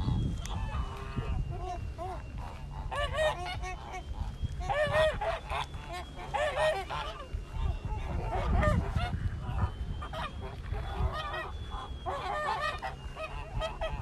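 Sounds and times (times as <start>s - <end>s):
geese honking: 0.0s - 14.0s.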